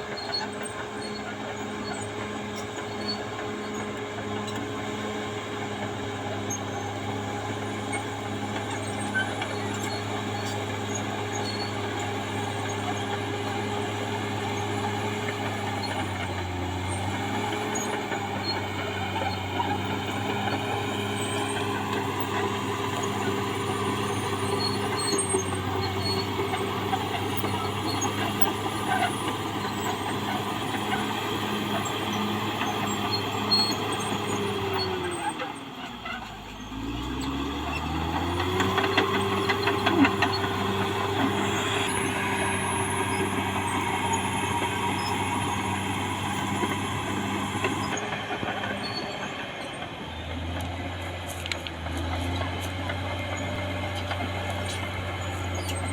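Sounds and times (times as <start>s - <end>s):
bulldozer diesel engine running: 0.0s - 55.9s
rising engine whine: 10.6s - 55.9s.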